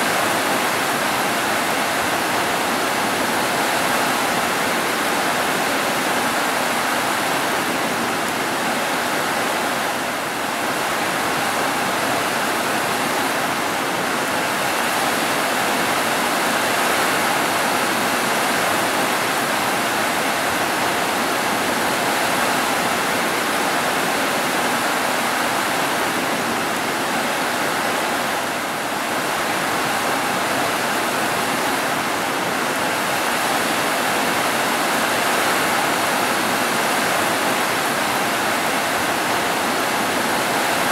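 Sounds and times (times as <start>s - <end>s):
heavy rain on rooftops: 0.0s - 40.9s.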